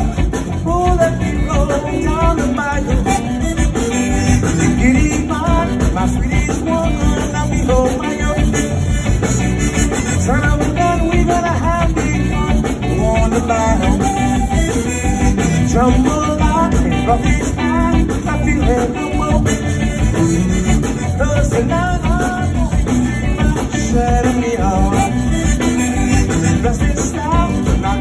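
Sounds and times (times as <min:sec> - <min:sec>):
upbeat song with band playing: 0:00.0 - 0:28.0.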